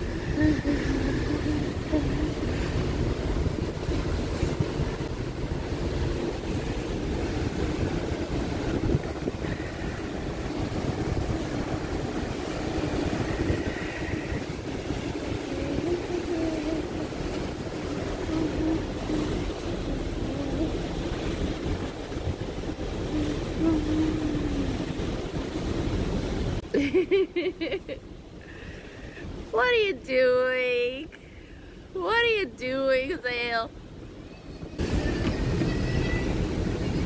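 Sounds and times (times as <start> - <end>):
wind buffeting microphone: 0.0 - 26.7, 33.7 - 37.0
ship rumble: 0.0 - 37.0
water rushing along hull: 0.0 - 37.0.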